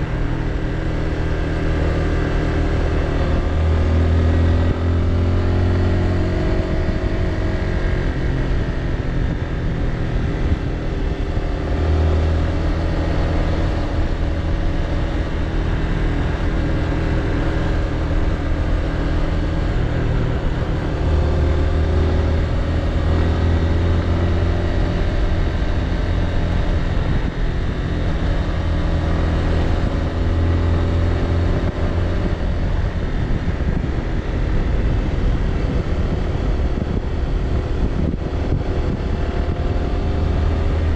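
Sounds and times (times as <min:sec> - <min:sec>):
motorbike engine running: 0:00.0 - 0:40.9
wind and road noise: 0:00.0 - 0:40.9.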